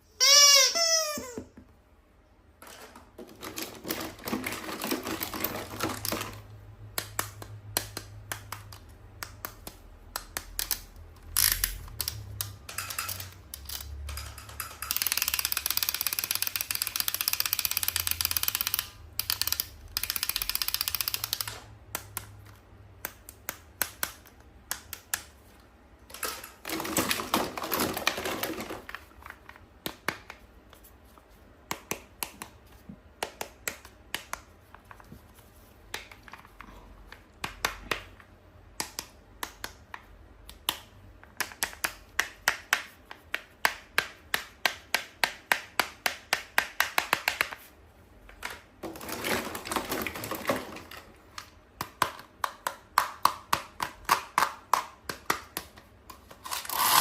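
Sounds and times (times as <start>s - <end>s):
quick clicks and taps on toys: 2.6s - 25.4s, 31.6s - 35.2s, 35.8s - 57.0s.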